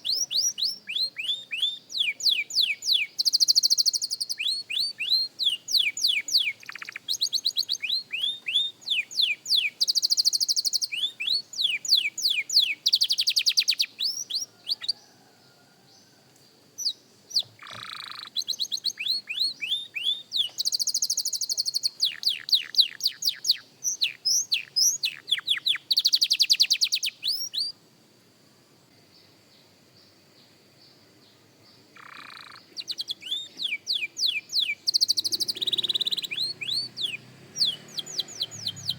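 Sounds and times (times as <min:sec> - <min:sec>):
canary singing: 0:00.0 - 0:15.0, 0:16.8 - 0:27.7, 0:32.0 - 0:38.9.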